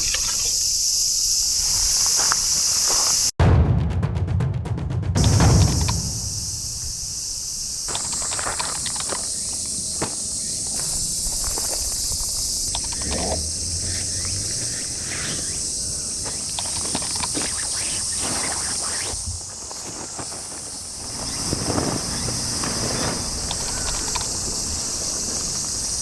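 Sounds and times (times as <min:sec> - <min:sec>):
insects chorus: 0:00.0 - 0:03.4, 0:05.2 - 0:26.0
rapid pulsing insect call: 0:00.0 - 0:03.4, 0:05.2 - 0:26.0.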